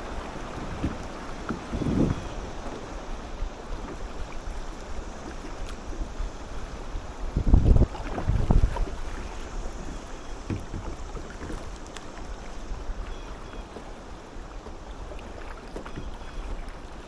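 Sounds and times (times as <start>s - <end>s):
water lapping and dripping: 0.0s - 17.0s
wind rumble on microphone: 0.0s - 17.0s.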